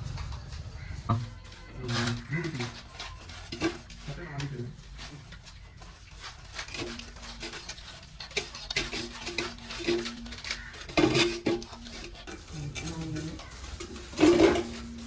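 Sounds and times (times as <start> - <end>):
knife and metal dishes clinking: 1.6 - 5.6, 6.2 - 15.0.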